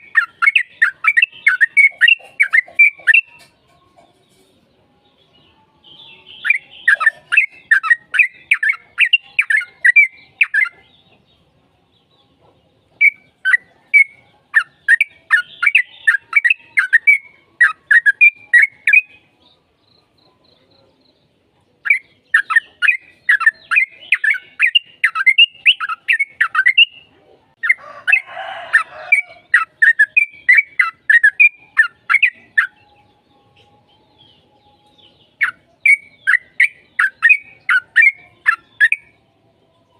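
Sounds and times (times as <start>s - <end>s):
bird song chirped notes: 0.0s - 39.9s.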